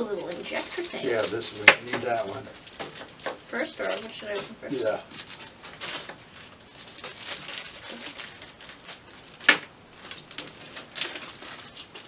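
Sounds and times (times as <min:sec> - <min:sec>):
packaging rustling and clicking: 0:00.0 - 0:12.0.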